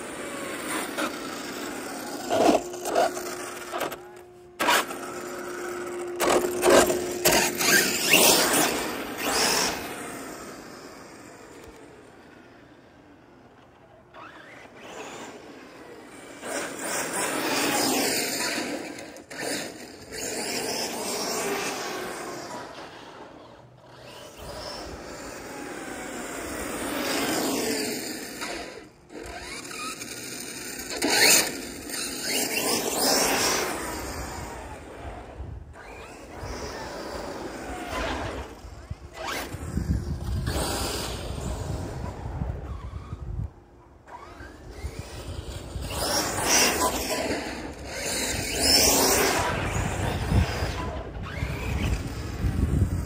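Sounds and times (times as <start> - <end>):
rc car motor whining: 0.0 - 53.0.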